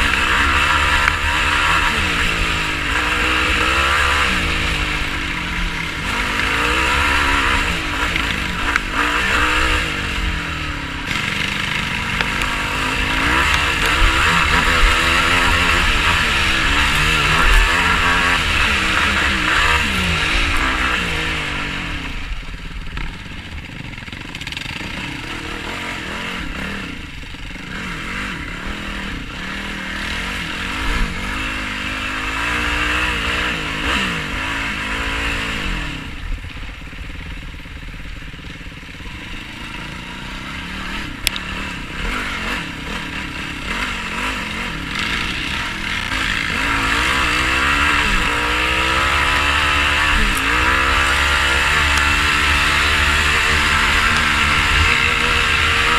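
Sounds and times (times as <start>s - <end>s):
quad engine revving: 0.0s - 55.9s.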